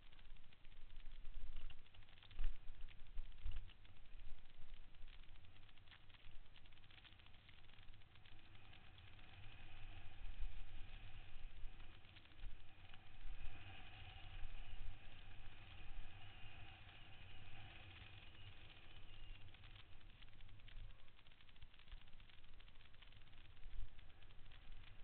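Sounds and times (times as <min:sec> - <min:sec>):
bike rattles and ticks: 0:00.0 - 0:25.0
faint steady whine: 0:00.0 - 0:25.0.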